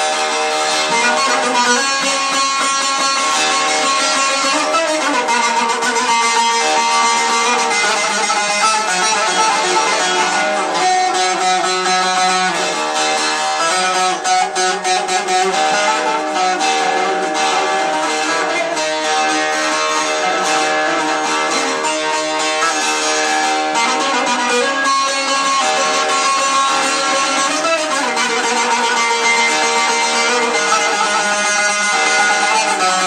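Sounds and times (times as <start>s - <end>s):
distorted electric saz melody: 0.0s - 33.0s.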